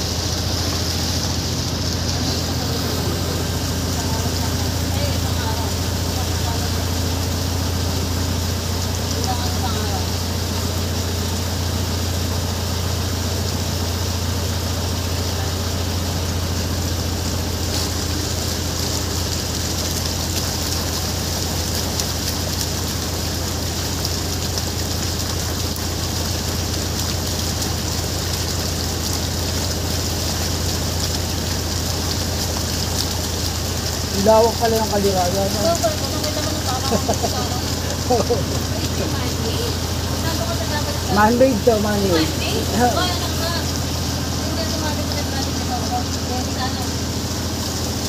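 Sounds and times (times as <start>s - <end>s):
boat engine drone: 0.0s - 48.0s
wind and water rushing: 0.0s - 48.0s.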